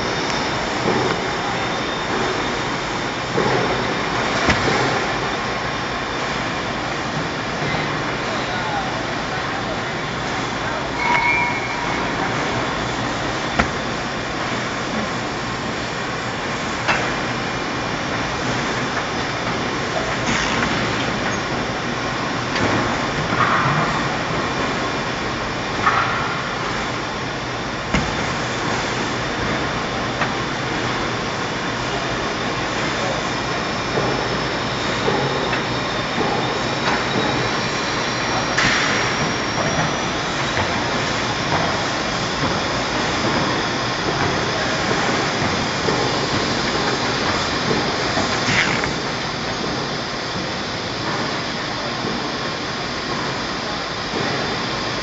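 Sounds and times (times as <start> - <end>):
workshop machinery noise: 0.0 - 55.0.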